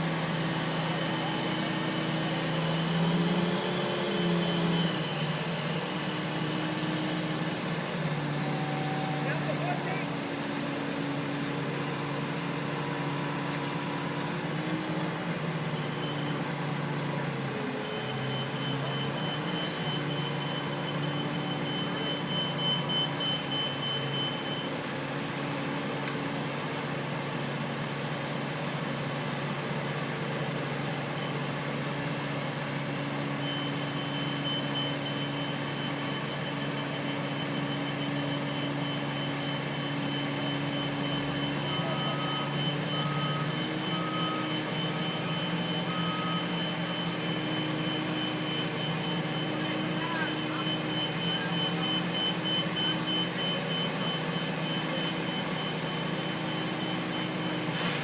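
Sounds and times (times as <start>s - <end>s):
heavy equipment engine running: 0.0s - 58.0s.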